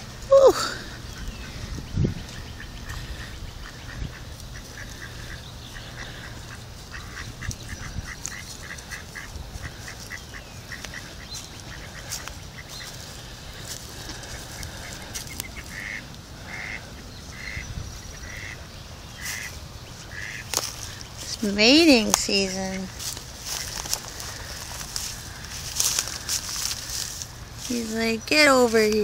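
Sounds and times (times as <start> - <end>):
ducks quacking: 0.0 - 29.0.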